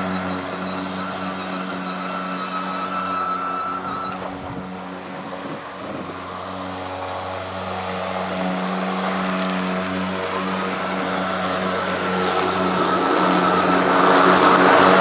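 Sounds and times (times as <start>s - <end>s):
electric lawn mower humming: 0.0s - 15.0s
mower high whine: 0.0s - 15.0s.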